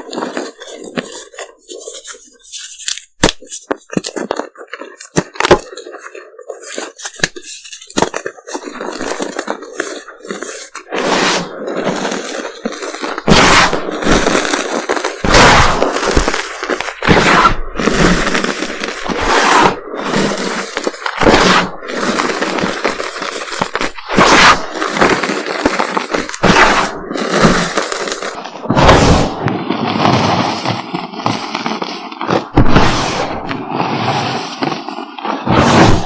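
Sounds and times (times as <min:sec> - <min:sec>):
chalk cracking: 0:00.0 - 0:29.4
chalk crunching by hand: 0:00.0 - 0:29.4.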